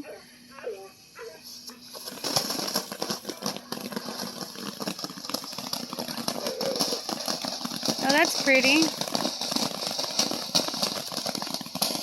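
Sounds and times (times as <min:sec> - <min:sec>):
fountain firework hissing and crackling: 0:00.0 - 0:12.0.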